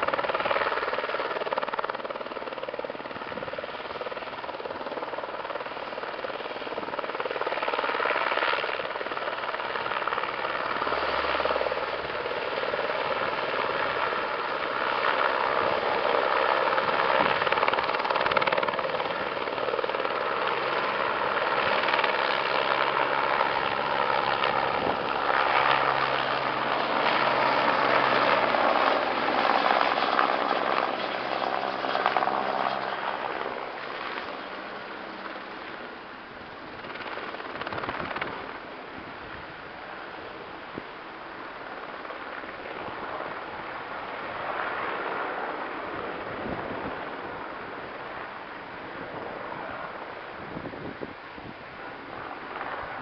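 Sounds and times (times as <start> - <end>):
helicopter rotor beat: 0.0 - 50.4, 51.9 - 53.0
helicopter turbine whine: 0.0 - 53.0.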